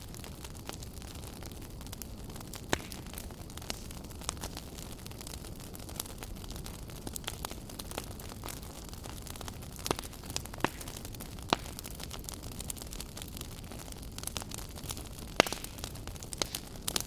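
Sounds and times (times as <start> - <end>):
fire crackling and popping: 0.0 - 17.0
flame rumbling: 0.0 - 17.0.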